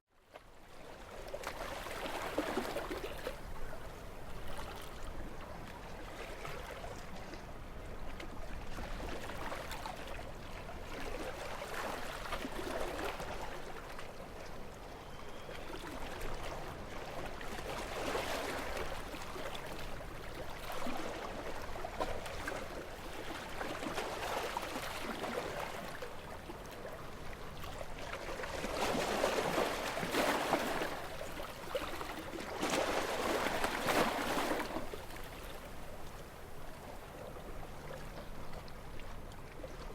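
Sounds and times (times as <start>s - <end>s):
small waves lapping on shore: 0.2s - 39.9s.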